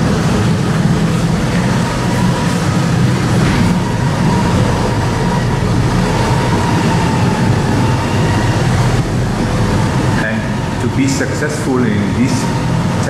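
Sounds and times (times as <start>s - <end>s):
machinery hum with thin whine: 0.0s - 13.0s.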